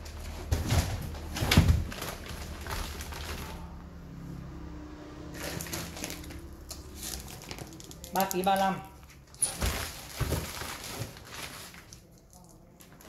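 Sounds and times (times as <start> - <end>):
plastic bags rustling: 0.0 - 3.8, 5.3 - 13.0.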